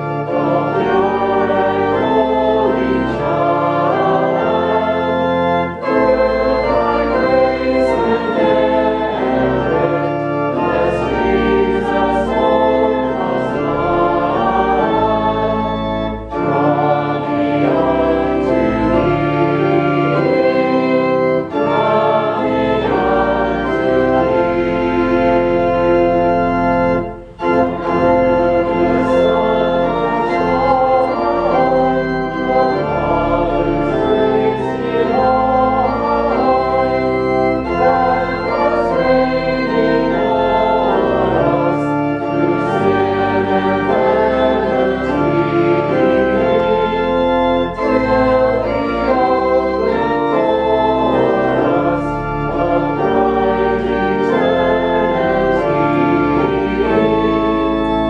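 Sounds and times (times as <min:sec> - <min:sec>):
church organ chords: 0:00.0 - 0:58.0.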